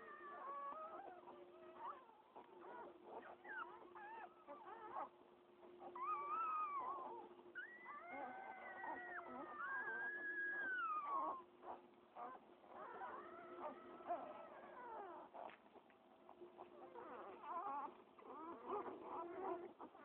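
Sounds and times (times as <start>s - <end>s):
puppies squealing and whining: 0.0s - 20.0s.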